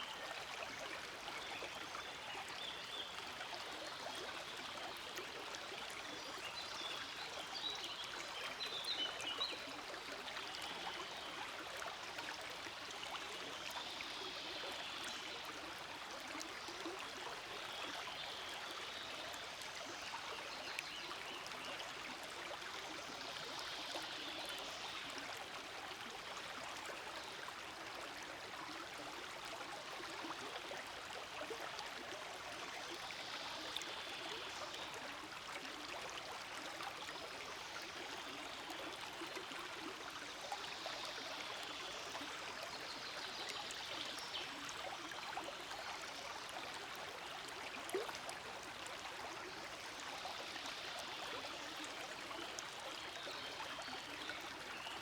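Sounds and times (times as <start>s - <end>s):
stream flowing over stones: 0.2s - 55.0s.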